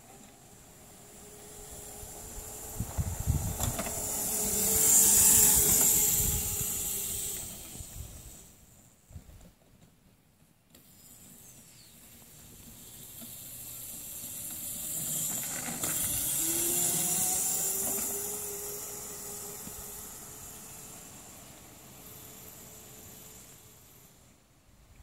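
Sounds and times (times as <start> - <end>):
electric dirt bike passing: 0.0 - 9.4, 10.7 - 25.0
chain and tyres hissing: 0.1 - 9.1, 10.8 - 24.6.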